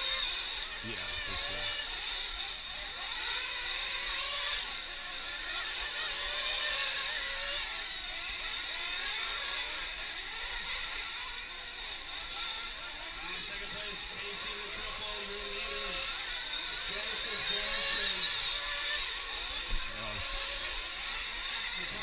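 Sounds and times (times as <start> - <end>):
small engines whining at high revs: 0.0 - 22.0.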